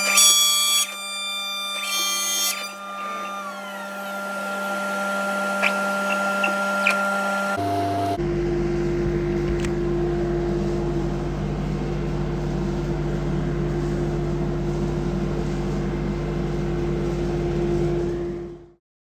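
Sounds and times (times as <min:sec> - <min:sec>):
router spindle humming: 0:00.0 - 0:18.7.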